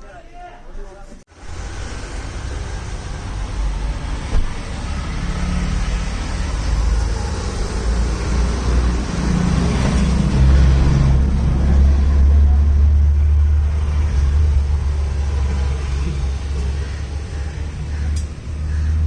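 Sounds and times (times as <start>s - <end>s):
vehicle engine rumbling: 1.3s - 19.0s.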